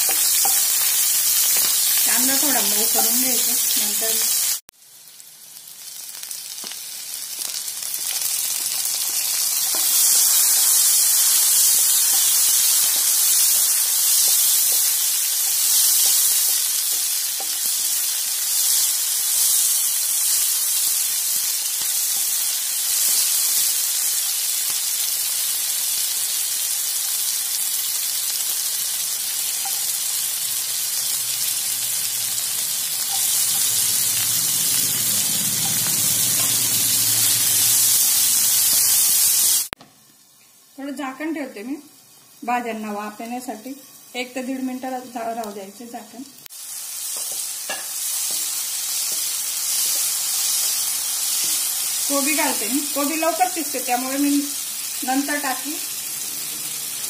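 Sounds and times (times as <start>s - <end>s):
vegetables sizzling in hot oil: 0.0s - 57.0s.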